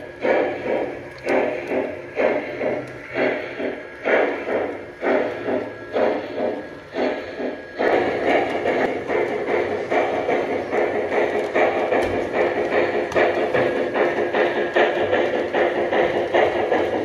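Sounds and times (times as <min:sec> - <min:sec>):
model train steam chuffs: 0:00.0 - 0:17.0.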